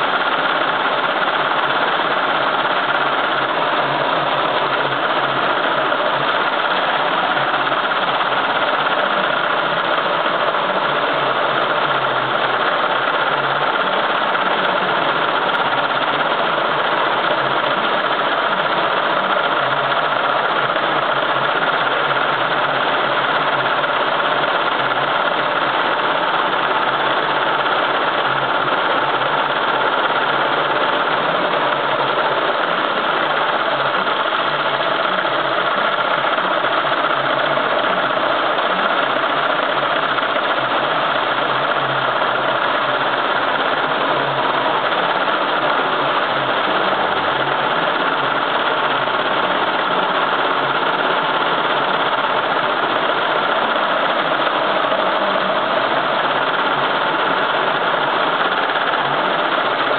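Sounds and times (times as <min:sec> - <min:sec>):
embroidery machine running: 0:00.0 - 0:59.9.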